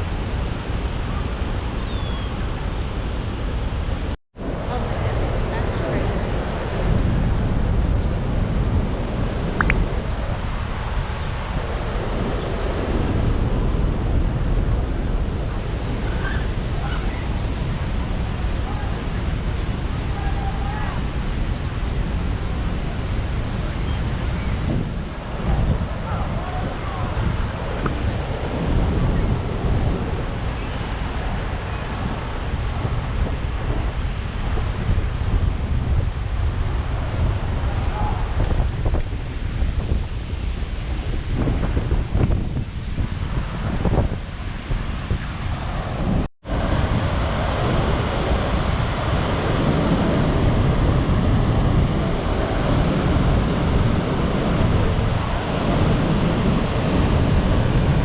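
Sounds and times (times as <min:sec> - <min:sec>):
waterfall roaring: 0:00.0 - 0:40.9, 0:44.3 - 0:58.0
wind buffeting microphone: 0:00.0 - 0:58.0.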